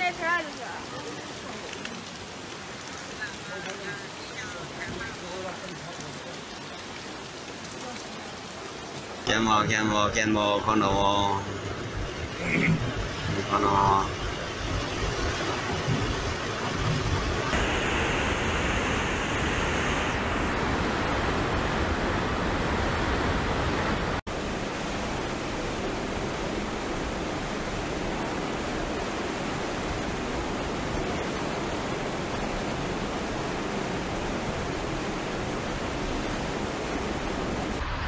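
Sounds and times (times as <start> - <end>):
river rushing in flood: 0.0 - 38.0.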